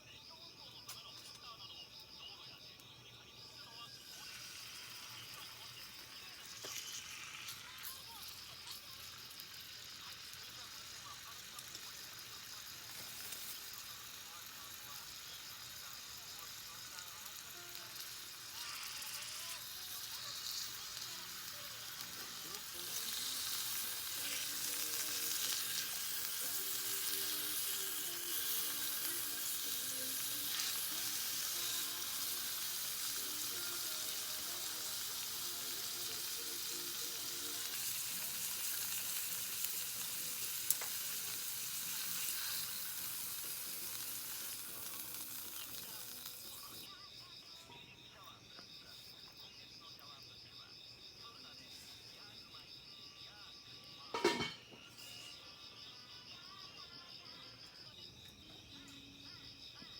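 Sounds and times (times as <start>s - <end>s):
food sizzling in a pan: 0.0s - 49.1s, 53.2s - 58.0s.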